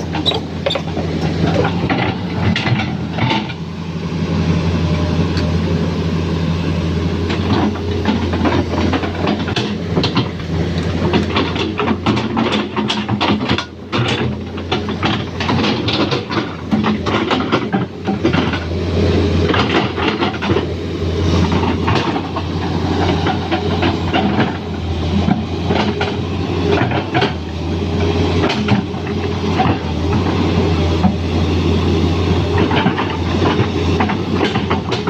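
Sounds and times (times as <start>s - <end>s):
metallic clatter of steel tracks: 0.0s - 3.7s, 7.2s - 35.0s
diesel engine running: 0.0s - 35.0s.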